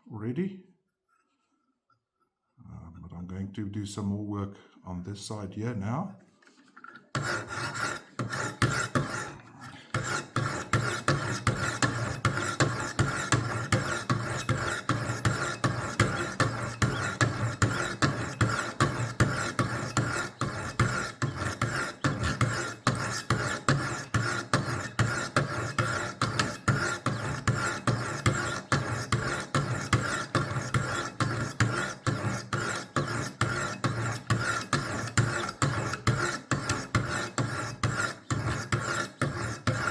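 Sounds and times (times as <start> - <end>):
sharpening stones rasping on blade: 7.2 - 39.9.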